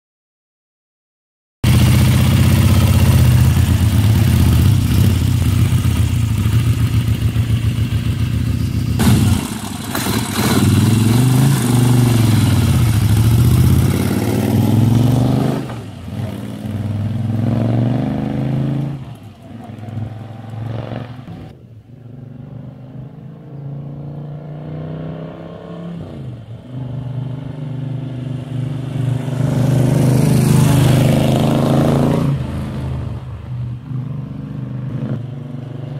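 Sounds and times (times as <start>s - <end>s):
motorcycle engine revving: 1.6s - 21.6s, 22.2s - 35.9s.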